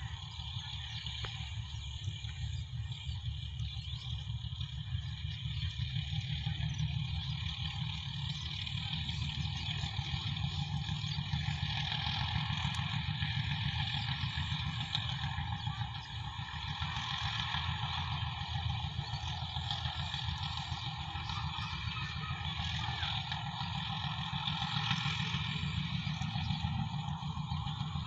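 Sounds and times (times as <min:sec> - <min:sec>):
distant train rumble: 0:00.0 - 0:28.0.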